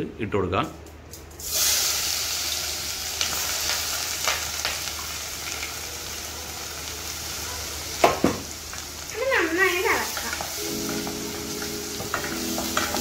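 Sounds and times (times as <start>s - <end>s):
paste sizzling in hot oil: 1.4s - 5.8s, 6.8s - 13.0s.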